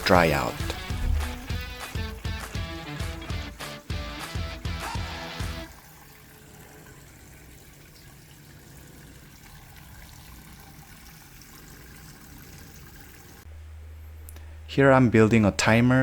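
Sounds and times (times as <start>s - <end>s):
fountain water trickling: 0.0s - 13.5s.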